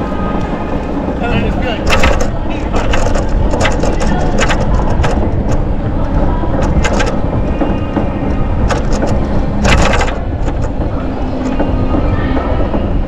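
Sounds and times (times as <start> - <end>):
bicycle clicks and clatters: 0.0 - 13.0
wind buffeting microphone: 0.0 - 13.0.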